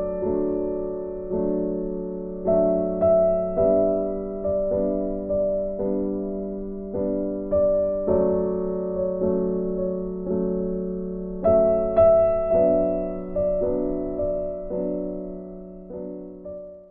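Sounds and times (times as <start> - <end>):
gentle keyboard chords: 0.0 - 16.9.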